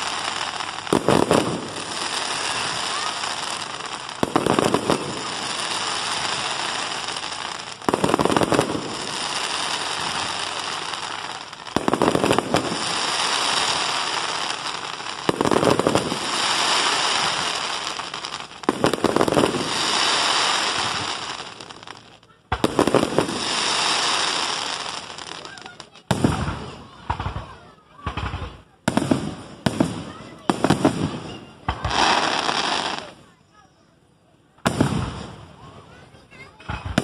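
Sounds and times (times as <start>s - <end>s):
fireworks bursting with bangs: 0.0s - 37.0s
fireworks crackling hiss: 0.0s - 37.0s.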